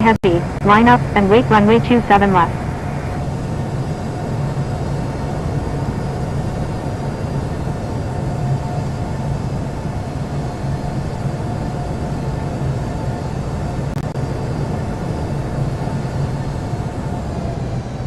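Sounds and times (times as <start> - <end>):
faint jet engine whine: 0.0 - 18.0
jet engine low rumble: 0.0 - 18.0.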